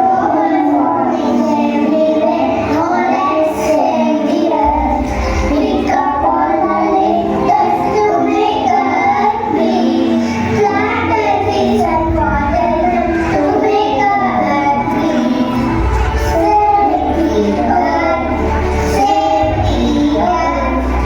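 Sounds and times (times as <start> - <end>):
backing music: 0.0 - 21.0
children singing: 0.0 - 21.0.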